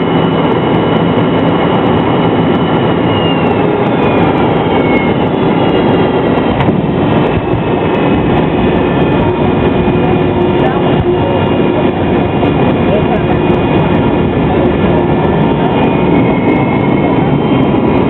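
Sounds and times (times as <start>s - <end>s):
airliner rumble with rattling: 0.0s - 18.0s.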